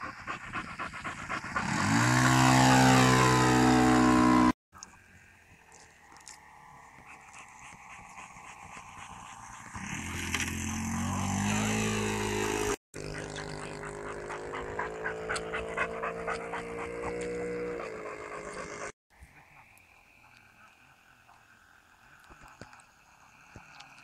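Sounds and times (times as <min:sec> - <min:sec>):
model plane engine: 0:00.2 - 0:07.0, 0:08.7 - 0:23.2.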